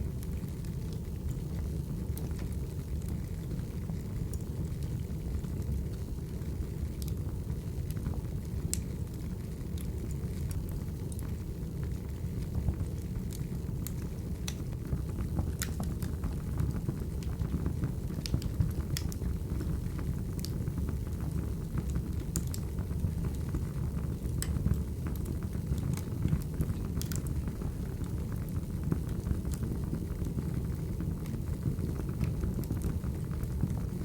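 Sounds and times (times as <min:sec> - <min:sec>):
fire crackles and pops: 0:00.0 - 0:34.0
flames rumbling: 0:00.0 - 0:34.0.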